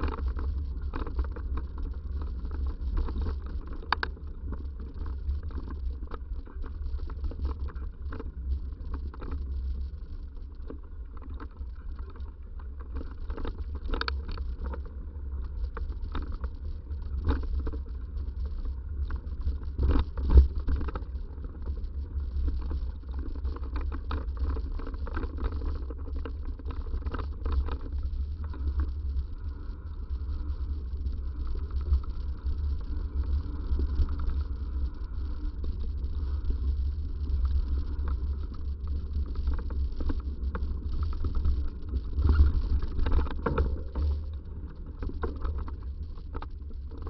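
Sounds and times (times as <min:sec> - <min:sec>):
bicycle rattling and knocking: 0:00.0 - 0:47.0.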